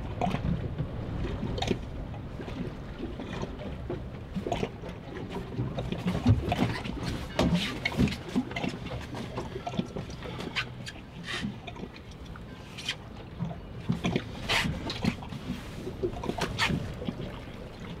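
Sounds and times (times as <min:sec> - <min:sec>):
water slapping boat hull: 0:00.0 - 0:18.0.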